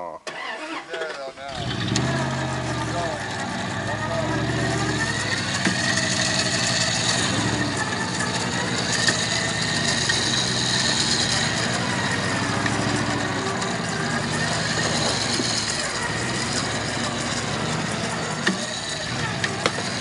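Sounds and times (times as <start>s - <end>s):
truck engine running: 1.4s - 20.0s.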